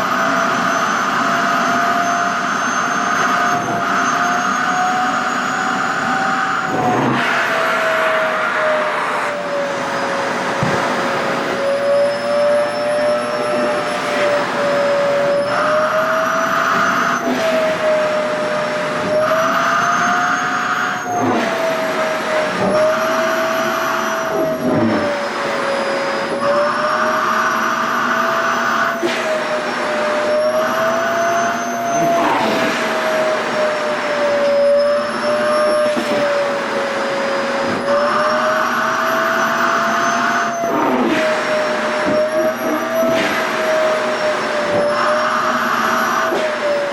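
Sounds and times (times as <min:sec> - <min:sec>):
vacuum cleaner whining: 0:00.0 - 0:46.9.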